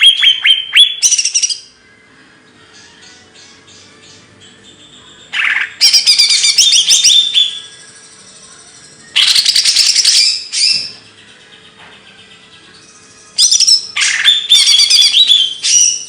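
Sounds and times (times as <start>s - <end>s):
songbird singing: 0.0s - 1.8s, 2.4s - 16.0s.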